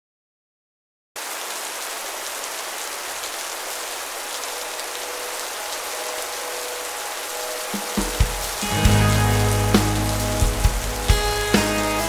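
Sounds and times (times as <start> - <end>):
steady rain falling: 1.2 - 12.0.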